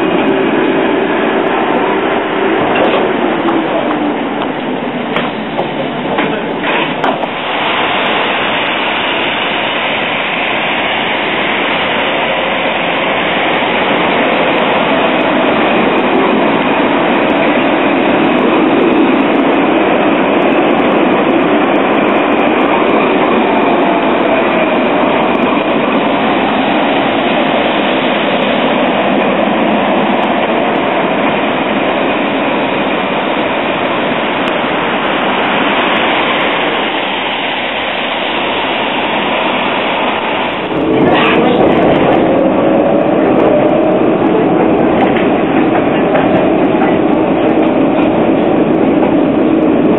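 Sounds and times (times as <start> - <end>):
tram wheels hissing: 0.0 - 49.9.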